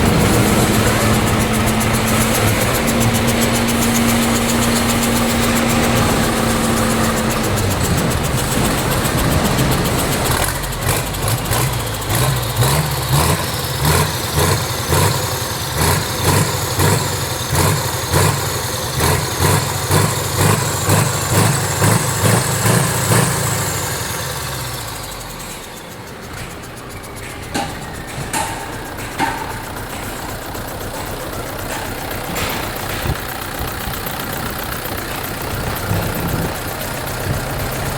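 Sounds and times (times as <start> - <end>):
diesel truck engine revving: 0.0 - 37.9.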